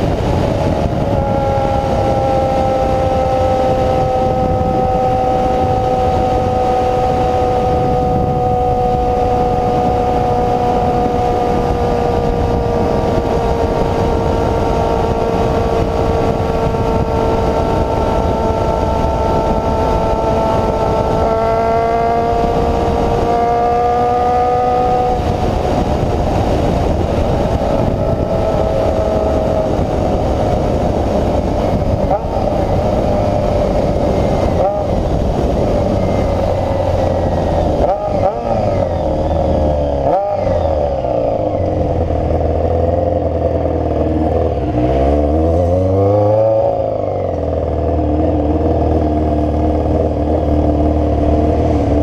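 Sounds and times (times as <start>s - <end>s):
motorcycle engine running high: 0.0s - 52.0s
steady rushing noise: 0.0s - 52.0s.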